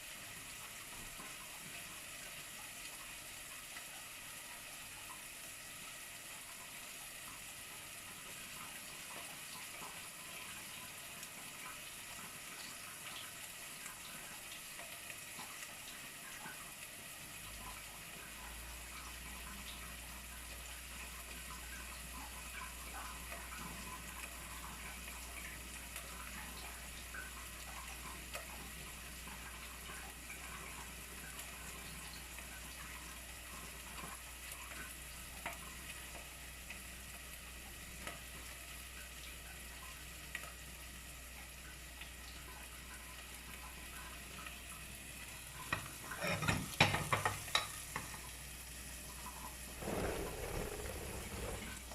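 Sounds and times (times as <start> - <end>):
water running: 0.0 - 51.9.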